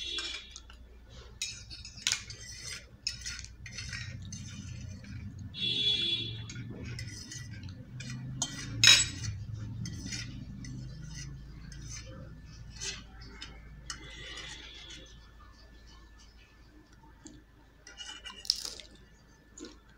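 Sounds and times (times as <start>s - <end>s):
forks scraping on metal plates: 0.0s - 15.9s, 17.8s - 18.6s.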